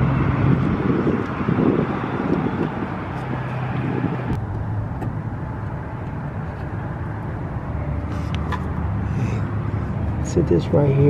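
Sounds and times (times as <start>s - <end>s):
car engine hum: 0.0s - 11.0s.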